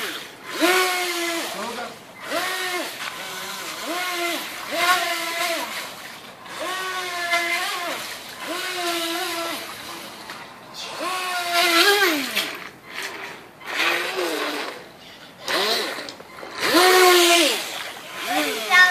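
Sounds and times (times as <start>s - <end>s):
electric motor whining: 0.0s - 18.9s.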